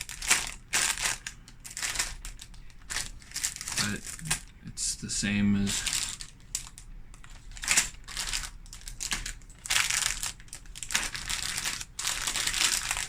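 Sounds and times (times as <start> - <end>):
plastic bags crinkling: 0.0 - 4.6, 5.6 - 13.0.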